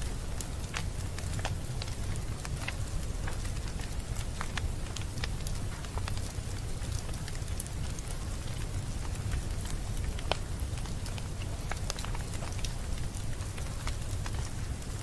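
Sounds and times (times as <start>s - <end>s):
fireplace fire crackling and popping: 0.0s - 15.0s.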